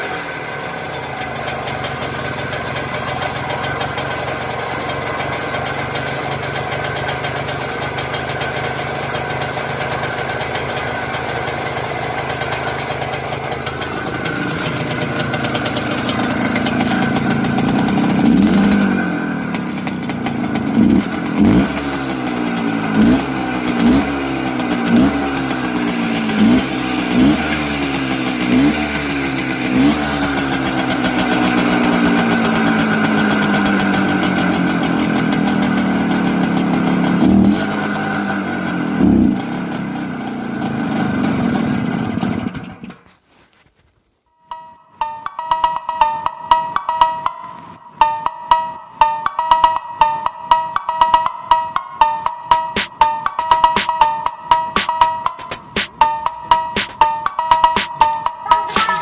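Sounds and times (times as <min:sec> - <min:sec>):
motorcycle engine idling and revving: 0:00.0 - 0:43.2, 0:45.3 - 0:59.0.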